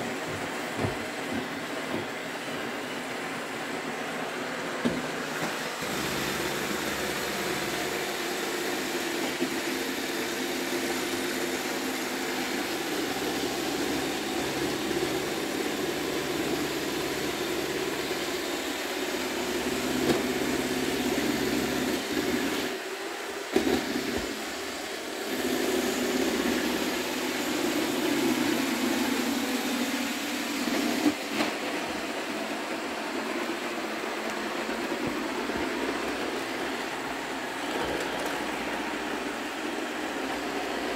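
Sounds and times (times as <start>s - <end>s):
robot vacuum humming: 0.0s - 40.9s.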